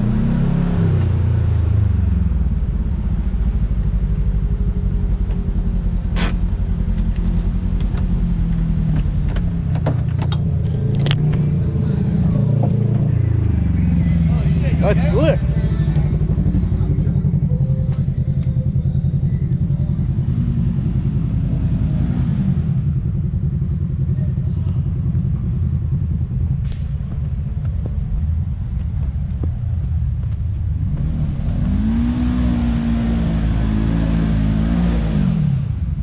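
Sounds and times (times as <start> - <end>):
engine throbbing and revving: 0.0 - 36.0.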